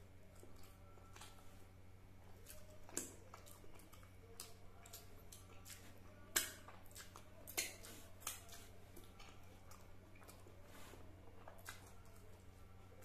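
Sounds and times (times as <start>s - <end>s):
low steady hum: 0.0s - 13.0s
person chewing food: 0.0s - 13.0s.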